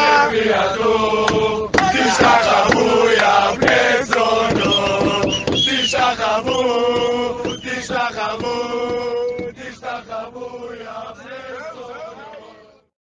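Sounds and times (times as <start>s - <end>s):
crowd chanting in unison: 0.0s - 12.7s.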